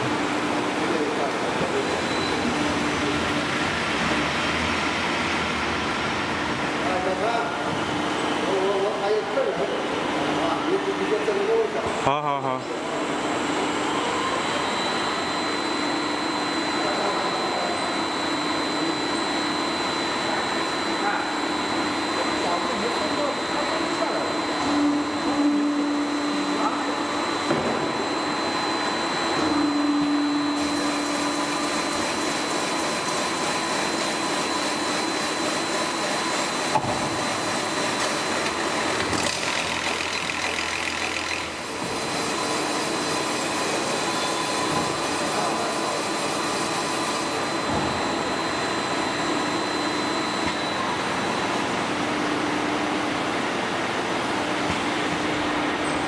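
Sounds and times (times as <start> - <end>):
machine whirring with high whine: 0.0 - 56.0.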